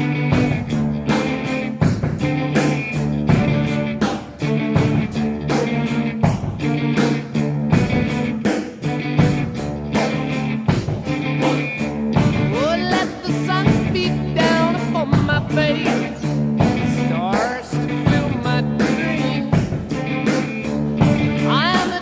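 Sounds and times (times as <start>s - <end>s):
rock music: 0.0s - 22.0s.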